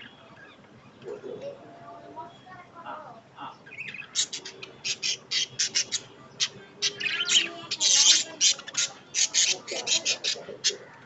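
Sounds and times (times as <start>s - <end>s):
birds squawking: 0.0s - 11.0s.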